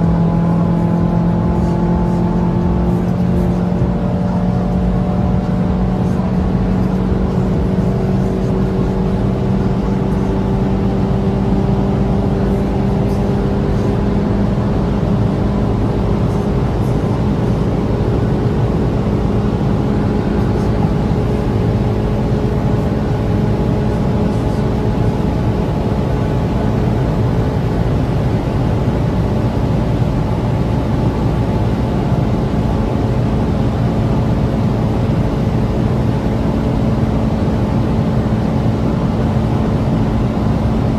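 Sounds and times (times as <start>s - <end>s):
car engine pulling at high speed: 0.0s - 40.9s
wind and road noise: 0.0s - 40.9s.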